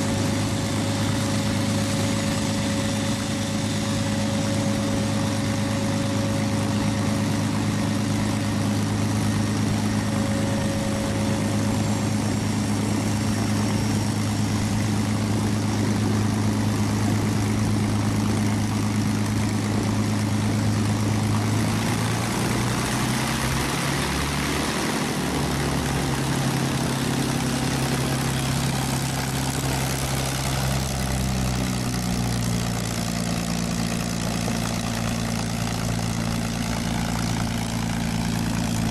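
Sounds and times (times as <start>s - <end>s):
propeller engine idling: 0.0s - 38.9s.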